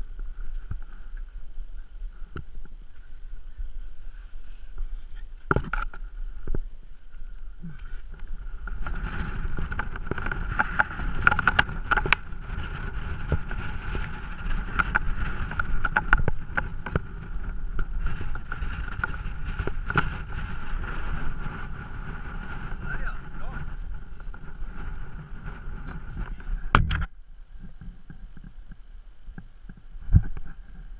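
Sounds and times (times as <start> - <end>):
climbing clicks and scrapes on rock: 0.0 - 30.9
wind rumbling on microphone: 0.0 - 30.9.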